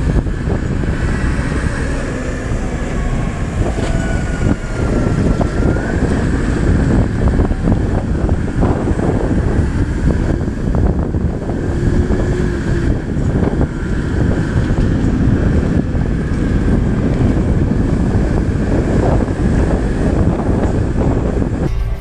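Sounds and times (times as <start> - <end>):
vehicle rumble: 0.0 - 22.0
wind buffeting microphone: 0.0 - 22.0.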